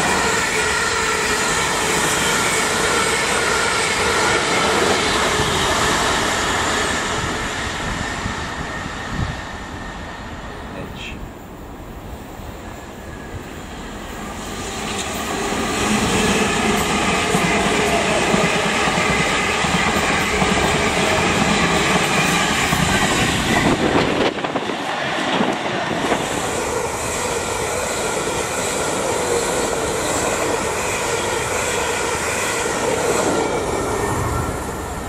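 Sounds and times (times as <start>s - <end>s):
train wheels running on rails: 0.0s - 35.0s.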